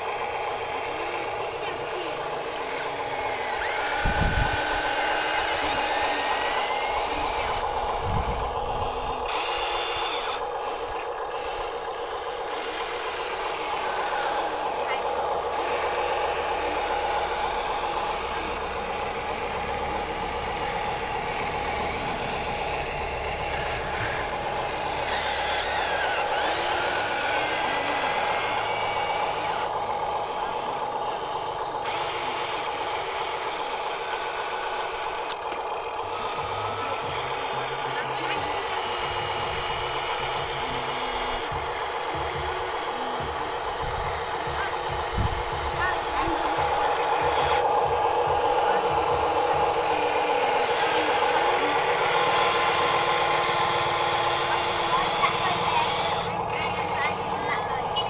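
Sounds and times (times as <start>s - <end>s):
electric drive whining: 0.0s - 58.0s.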